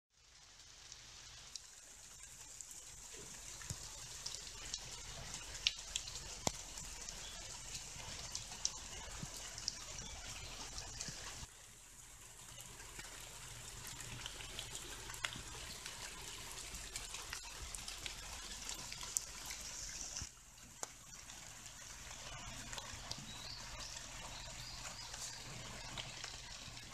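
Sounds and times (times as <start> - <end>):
light rain on leaves: 0.1 - 26.9
sharp water drips: 0.2 - 26.9.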